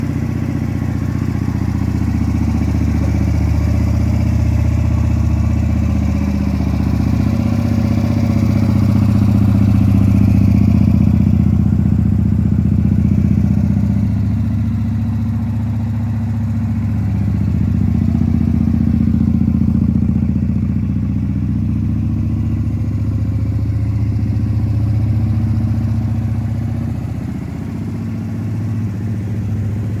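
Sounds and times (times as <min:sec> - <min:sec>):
motorcycle engine at low revs: 0:00.0 - 0:30.0.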